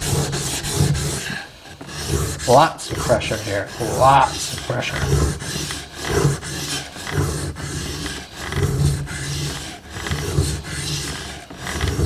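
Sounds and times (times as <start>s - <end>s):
knife blade grinding on whetstone: 0.0s - 12.0s.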